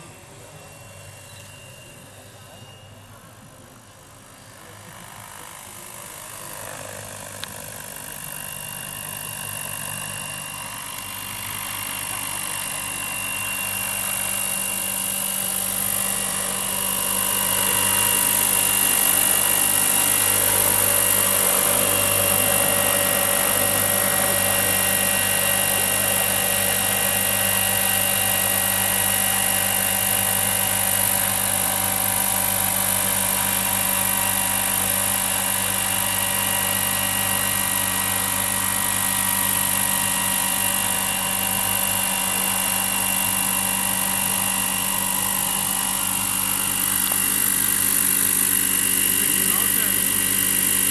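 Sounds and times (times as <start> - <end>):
model helicopter hovering: 0.0 - 50.9.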